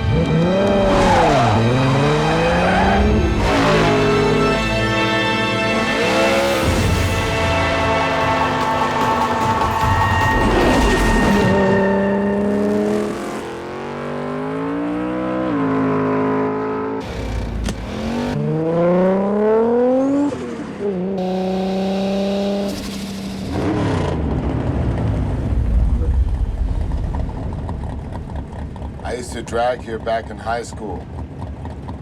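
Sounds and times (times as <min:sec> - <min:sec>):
car engine accelerating hard: 0:00.0 - 0:32.0
cars passing: 0:00.0 - 0:32.0.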